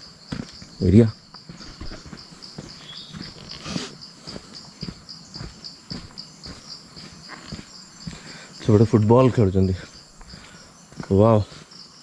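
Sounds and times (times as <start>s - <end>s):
footsteps on a brick path: 0.0s - 12.0s
insects chirping: 0.0s - 12.0s.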